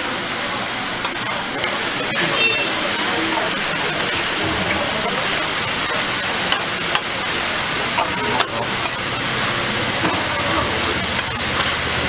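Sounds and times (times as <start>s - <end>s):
meat sizzling on a griddle: 1.0s - 12.0s.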